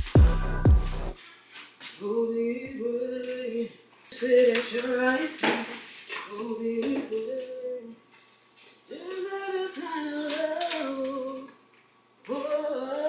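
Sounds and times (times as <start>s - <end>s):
person singing: 0.0s - 1.2s, 2.0s - 8.0s, 8.9s - 11.6s, 12.2s - 13.0s.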